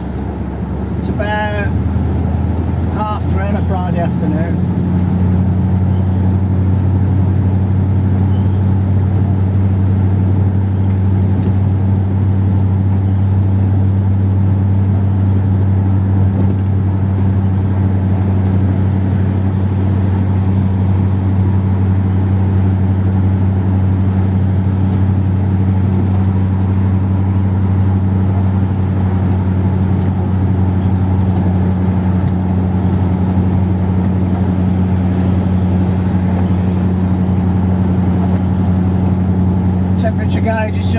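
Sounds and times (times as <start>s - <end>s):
car engine cruising steadily: 0.0s - 40.9s.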